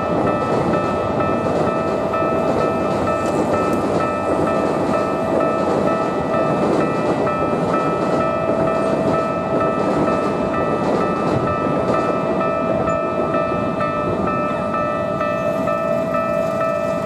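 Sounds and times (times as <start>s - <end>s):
level-crossing warning bell: 0.0s - 17.0s.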